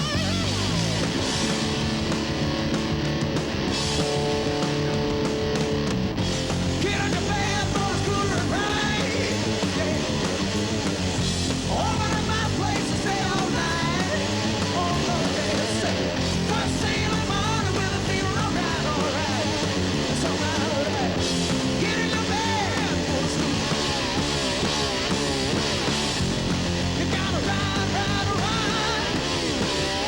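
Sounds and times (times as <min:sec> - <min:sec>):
bending lead guitar line: 0:00.0 - 0:30.0
hard rock band playing live: 0:00.0 - 0:30.0.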